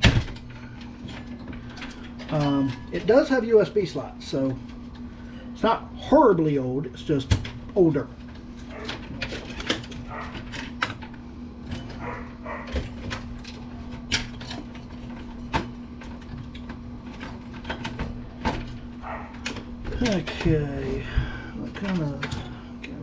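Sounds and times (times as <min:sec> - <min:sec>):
tools and metal parts clattering: 0:00.0 - 0:04.7, 0:06.4 - 0:23.0
steady low hum: 0:00.0 - 0:23.0.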